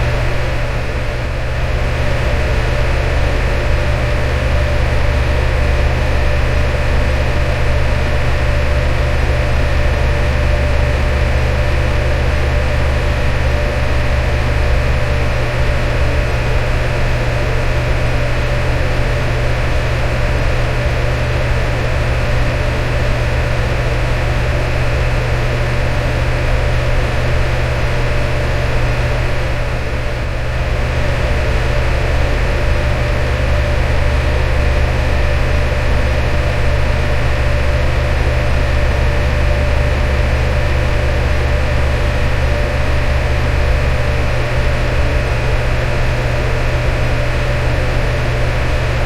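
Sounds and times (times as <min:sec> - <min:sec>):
electric fan running: 0:00.0 - 0:49.0.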